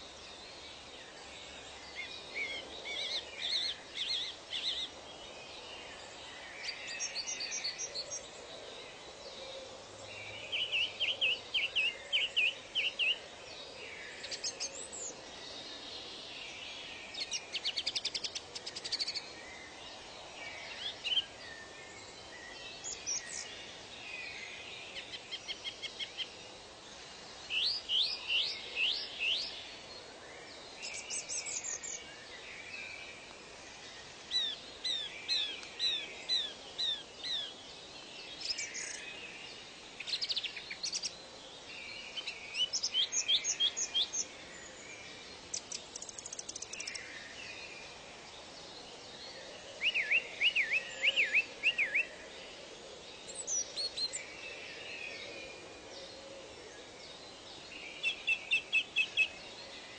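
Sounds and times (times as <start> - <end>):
forest ambience hiss: 0.0 - 59.9
wild birds singing: 0.0 - 59.9.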